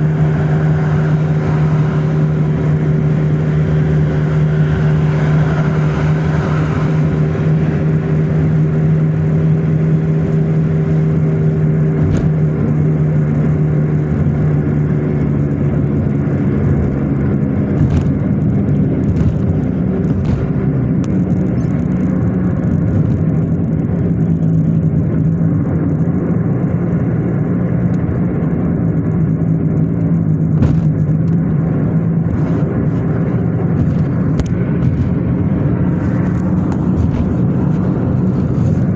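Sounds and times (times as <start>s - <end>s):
car engine hum: 0.0s - 38.9s
road rumble: 0.0s - 38.9s.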